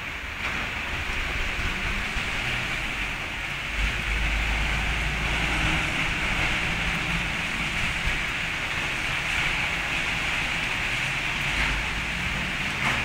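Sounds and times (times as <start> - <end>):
heavy rain on paving: 0.0 - 13.0.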